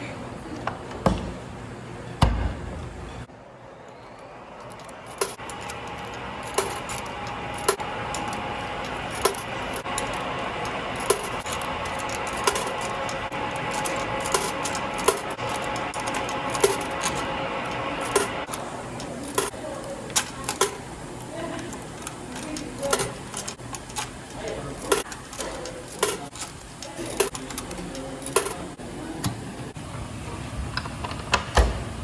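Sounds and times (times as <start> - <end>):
washing machine humming: 0.0 - 32.0.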